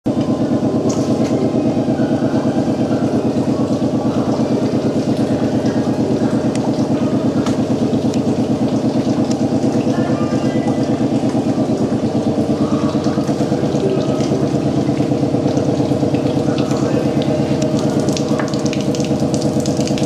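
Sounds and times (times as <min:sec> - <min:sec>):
grinder motor pulsing hum: 0:00.1 - 0:20.0.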